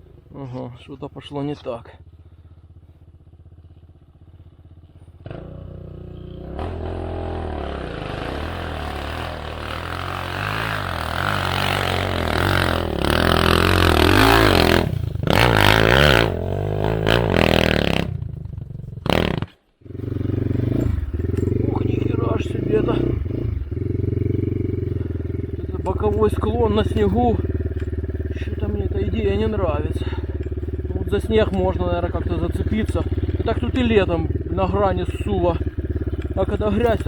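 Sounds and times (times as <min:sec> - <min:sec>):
dirt bike engine revving: 0:05.0 - 0:37.0.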